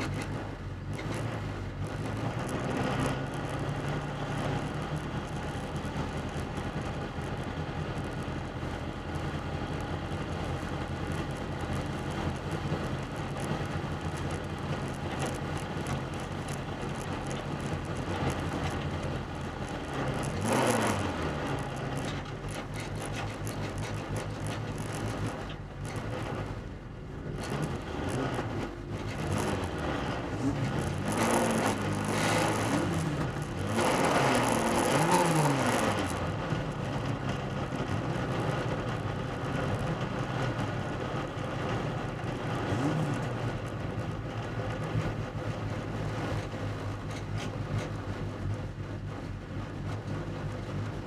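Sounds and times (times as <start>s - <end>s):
air-cooled car engine racing: 0.0s - 51.0s.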